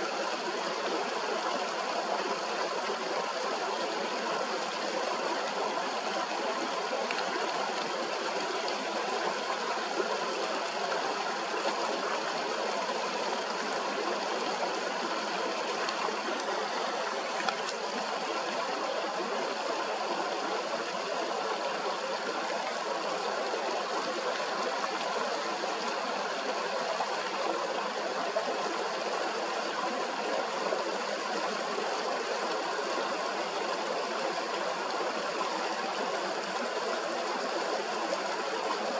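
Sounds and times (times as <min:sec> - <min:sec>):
fast-flowing stream rushing: 0:00.0 - 0:38.9.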